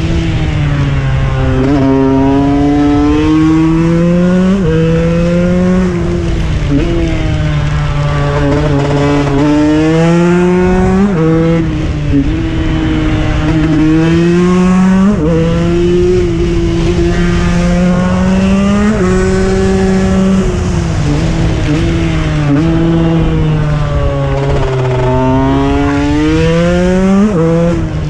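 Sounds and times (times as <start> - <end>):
two-stroke engine revving high: 0.0 - 28.0.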